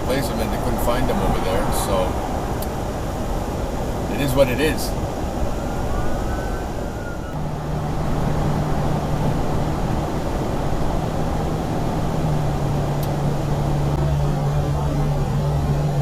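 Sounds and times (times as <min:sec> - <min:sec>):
low hum: 0:00.0 - 0:16.0
vehicle road and engine noise: 0:00.0 - 0:16.0.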